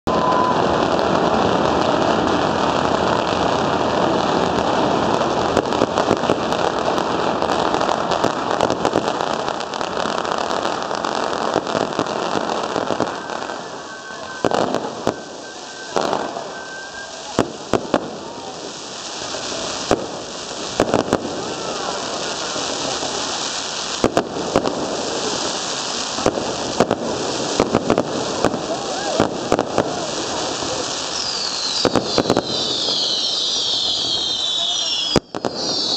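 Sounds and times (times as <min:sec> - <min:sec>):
firecrackers crackling: 0:00.1 - 0:35.9.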